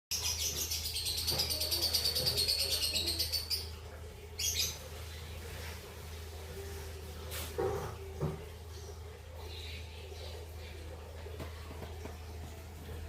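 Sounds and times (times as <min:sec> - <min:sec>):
lovebirds chattering: 0:00.1 - 0:05.8, 0:07.7 - 0:13.0.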